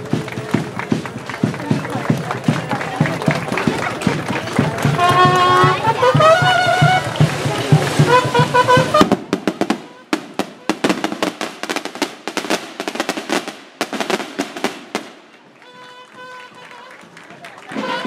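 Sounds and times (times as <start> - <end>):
music with steady drum beat: 0.0 - 15.1
firecrackers popping: 0.0 - 18.0.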